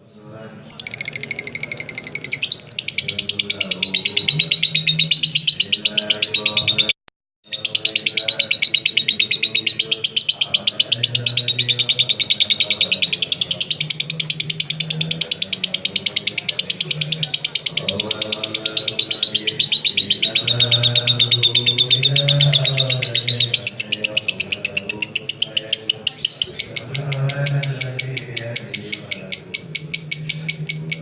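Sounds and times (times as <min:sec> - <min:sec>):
lovebird chattering trill: 0:00.7 - 0:31.0.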